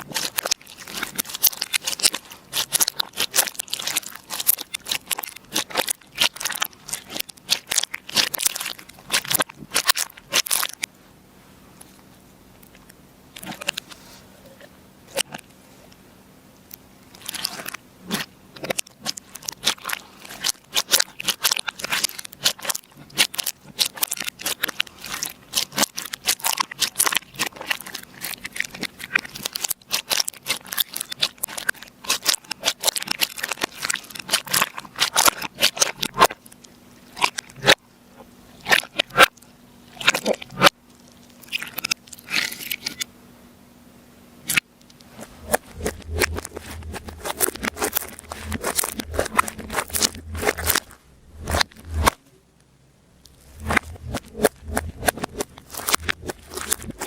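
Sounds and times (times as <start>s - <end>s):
slime crackling and popping: 0.0s - 10.9s, 17.1s - 37.8s, 38.6s - 43.1s, 44.4s - 52.2s, 53.2s - 57.0s.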